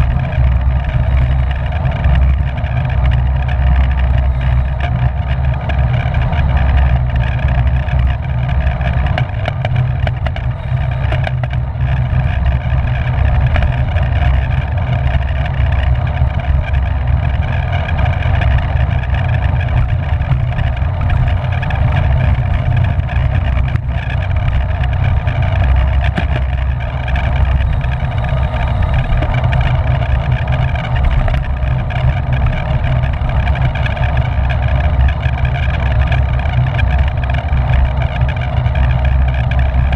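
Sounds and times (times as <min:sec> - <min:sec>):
steady multi-tone hum: 0:00.0 - 0:39.9
wind roar on microphone: 0:00.0 - 0:39.9.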